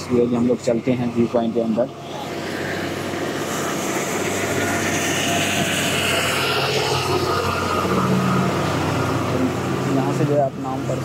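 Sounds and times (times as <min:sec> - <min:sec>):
engine humming: 0:00.0 - 0:11.0
rushing hiss: 0:02.0 - 0:11.0.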